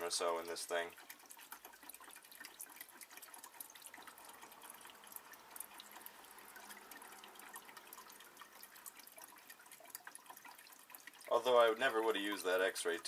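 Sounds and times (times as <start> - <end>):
oil trickling into a tub: 0.0 - 13.0
small drips ticking: 0.0 - 13.0.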